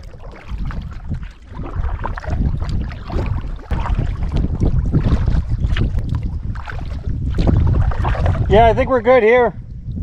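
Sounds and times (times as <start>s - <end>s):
paddle splashing in water: 0.0s - 8.8s
wind buffeting microphone: 0.0s - 10.0s.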